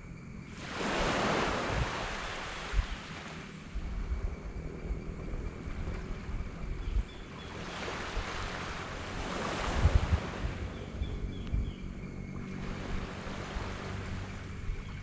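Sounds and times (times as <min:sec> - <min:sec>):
small waves on sand beach: 0:00.4 - 0:11.5, 0:12.3 - 0:15.0
wind buffeting microphone: 0:00.5 - 0:15.0.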